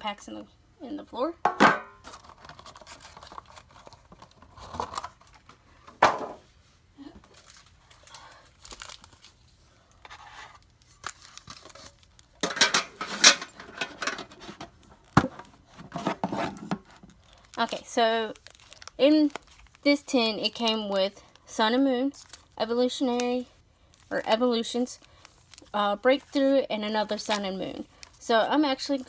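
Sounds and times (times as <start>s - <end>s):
foil packs crinkling: 2.0s - 5.5s, 7.2s - 29.0s.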